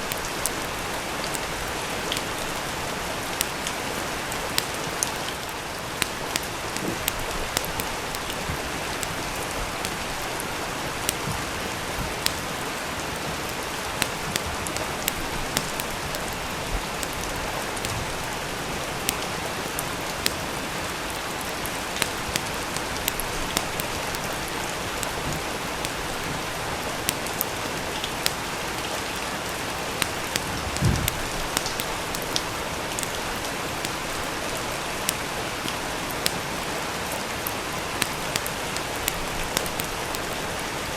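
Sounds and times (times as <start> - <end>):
steady rain: 0.0 - 40.9
wood fire crackling: 0.0 - 40.9.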